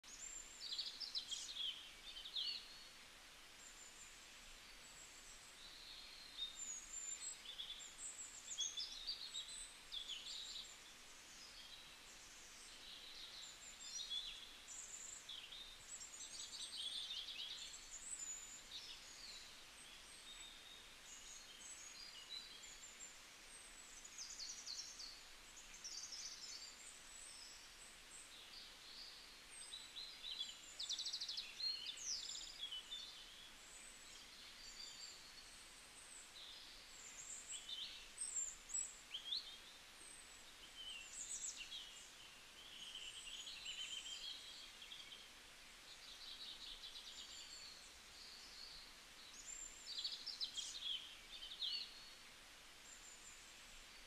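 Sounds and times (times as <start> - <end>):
faint hiss: 0.0 - 54.0.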